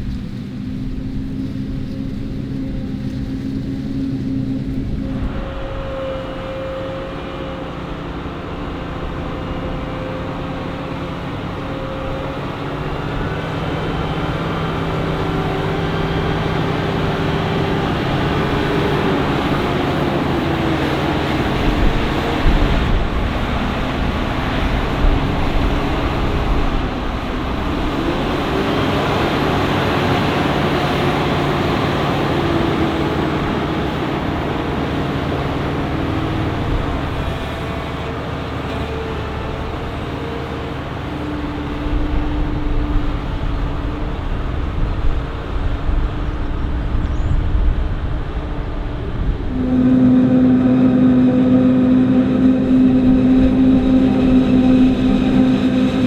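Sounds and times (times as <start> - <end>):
diesel engines running loudly: 0.0 - 56.0.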